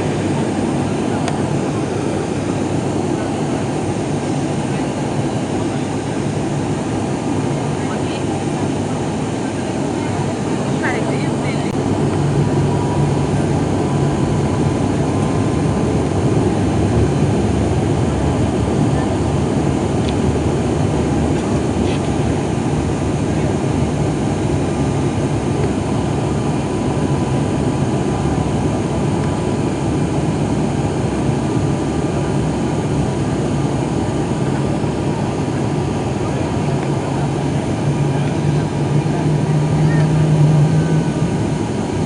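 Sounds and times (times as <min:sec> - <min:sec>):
turboprop engine drone: 0:00.0 - 0:42.0
thin steady whine: 0:07.3 - 0:42.0.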